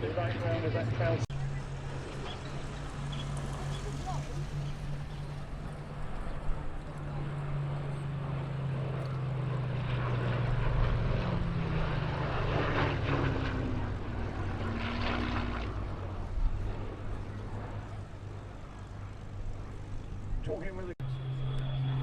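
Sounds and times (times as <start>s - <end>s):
propeller plane engine passing: 0.0s - 22.0s.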